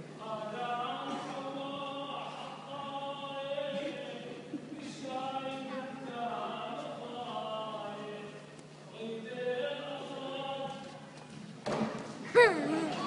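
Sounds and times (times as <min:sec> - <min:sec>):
voices chanting a hymn: 0:00.0 - 0:11.1.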